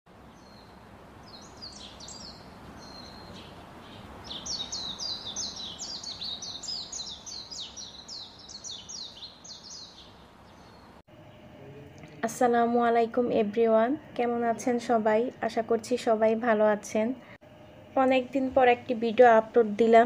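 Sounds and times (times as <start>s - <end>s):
outdoor background noise: 0.1s - 20.0s
small birds chirping: 0.1s - 20.0s.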